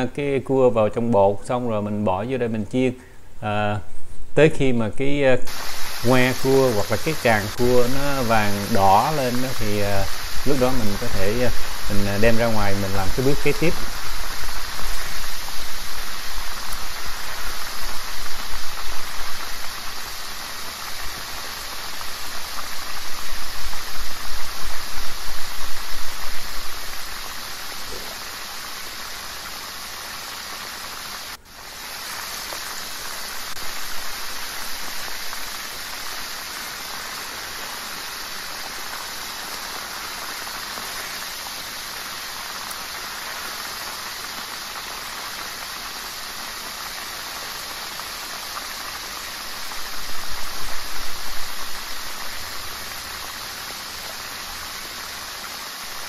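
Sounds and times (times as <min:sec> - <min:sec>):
food deep-frying in oil: 0:05.5 - 0:56.0.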